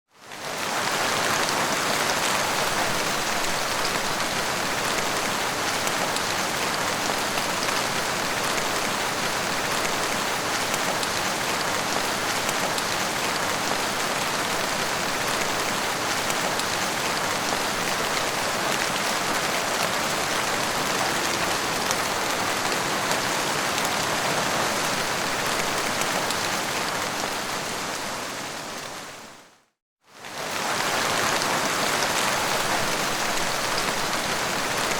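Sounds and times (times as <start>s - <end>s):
heavy rainfall: 0.1s - 34.9s.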